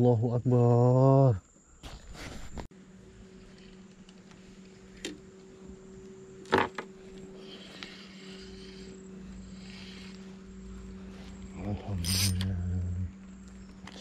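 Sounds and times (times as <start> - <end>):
steady low hum: 2.1 - 14.0.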